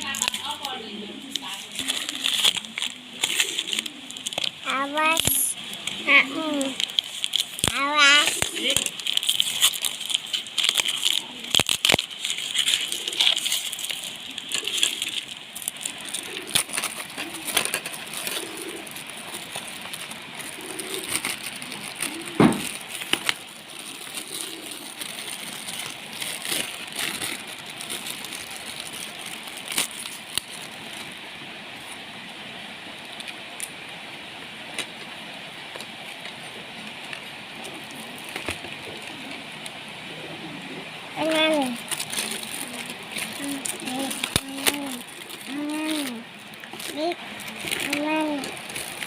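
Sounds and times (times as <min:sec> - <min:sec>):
books and packaging handled: 0:00.0 - 0:32.0, 0:34.7 - 0:39.2, 0:41.2 - 0:49.0.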